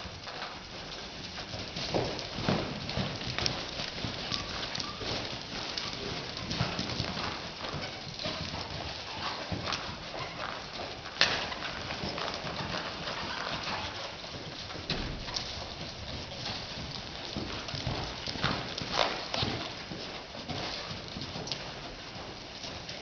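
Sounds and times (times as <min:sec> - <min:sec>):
hooves thudding on sand: 0:00.0 - 0:23.0.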